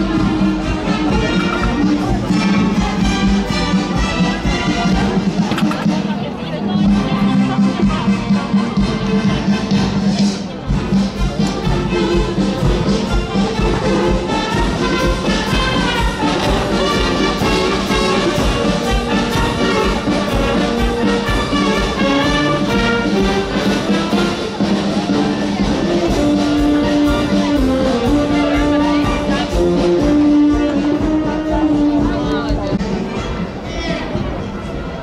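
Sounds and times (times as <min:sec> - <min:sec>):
live brass band playing: 0:00.0 - 0:35.0.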